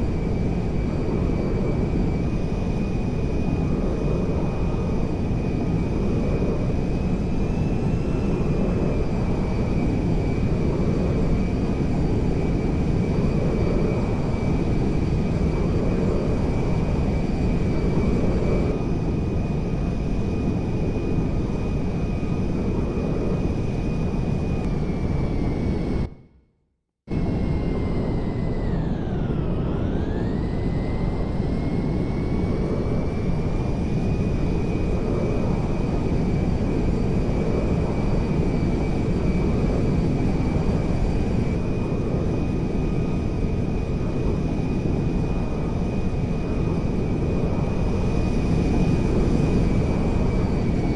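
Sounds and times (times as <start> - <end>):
airplane engine whine: 0.0 - 50.9.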